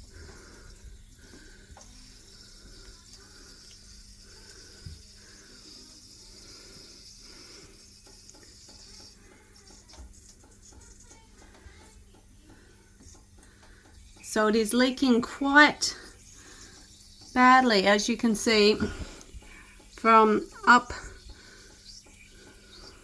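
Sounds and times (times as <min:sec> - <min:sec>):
washing machine water hissing: 0:00.0 - 0:23.0.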